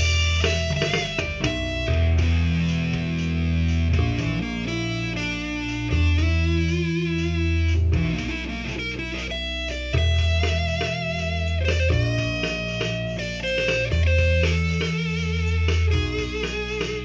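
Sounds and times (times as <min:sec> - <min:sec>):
electric guitar through amplifier: 0:00.0 - 0:17.0.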